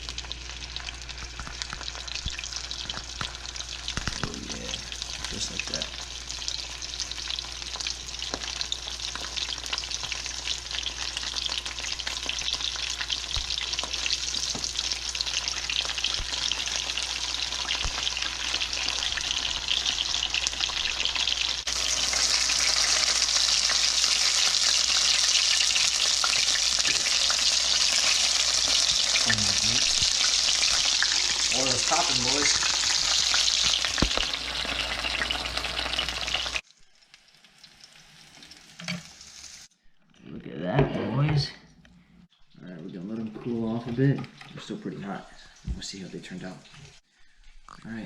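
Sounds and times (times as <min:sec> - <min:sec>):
meat sizzling in hot oil: 0:00.0 - 0:39.7.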